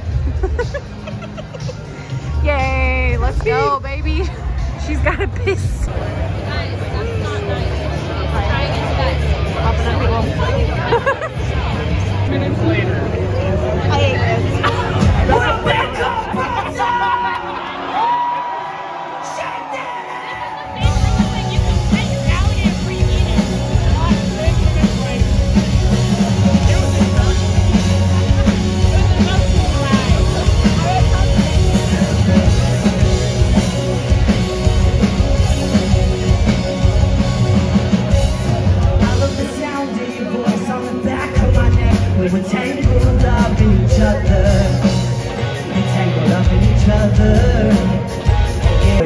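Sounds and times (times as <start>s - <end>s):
rock band playing live: 0.0s - 18.6s, 19.2s - 49.0s.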